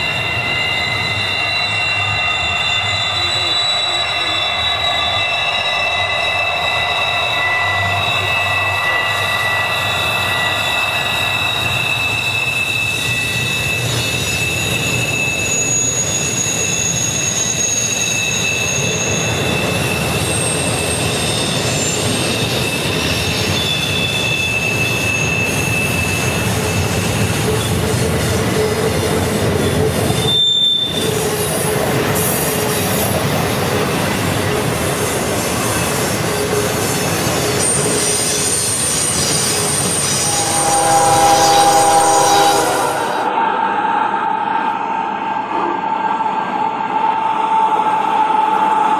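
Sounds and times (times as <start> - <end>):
high-pitched wheel squeals: 0.0 - 43.4.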